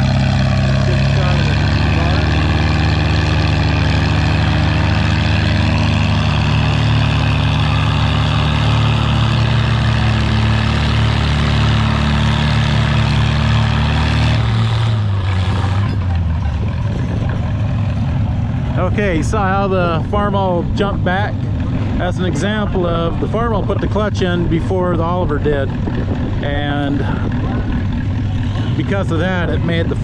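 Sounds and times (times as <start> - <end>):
tractor engines under heavy load: 0.0 - 30.0.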